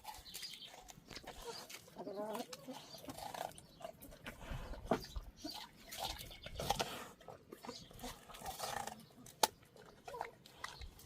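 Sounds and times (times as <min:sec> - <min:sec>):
animal chewing watermelon: 0:00.0 - 0:11.0.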